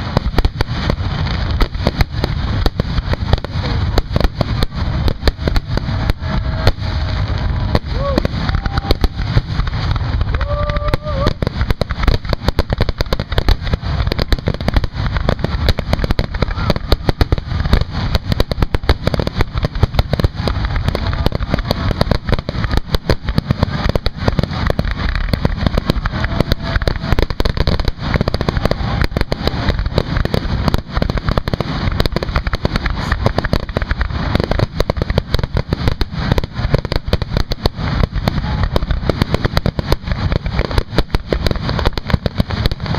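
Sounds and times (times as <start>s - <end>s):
deep rumble: 0.0s - 42.9s
fireworks bangs and crackles: 0.0s - 42.9s.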